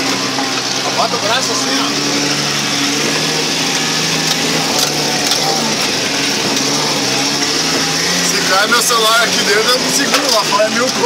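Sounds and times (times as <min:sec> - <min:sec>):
vehicle engine at low revs: 0:00.0 - 0:11.0.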